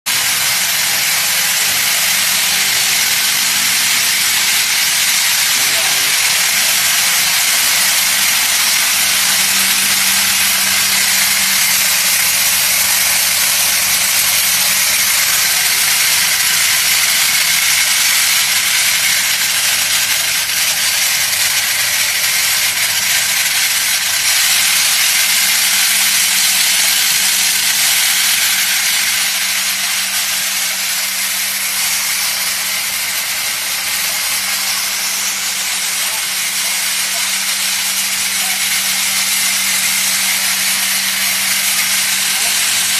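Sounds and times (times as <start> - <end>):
hammer mill rushing hiss: 0.1 - 42.9
machine hum: 0.1 - 42.9.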